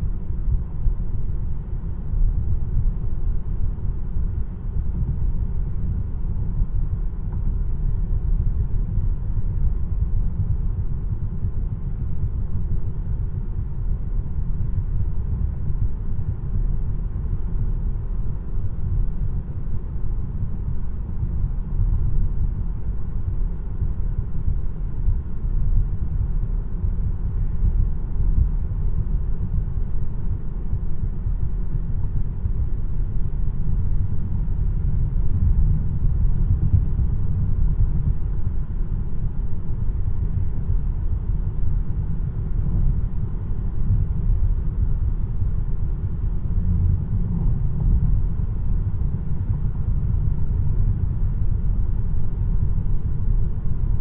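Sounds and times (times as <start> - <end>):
road and tyre rumble in car: 0.0 - 54.0.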